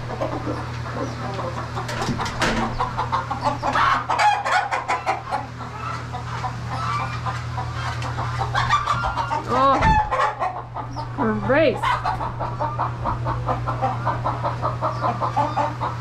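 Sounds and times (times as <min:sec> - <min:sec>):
chickens clucking: 0:00.0 - 0:16.0
steady low hum: 0:00.0 - 0:16.0.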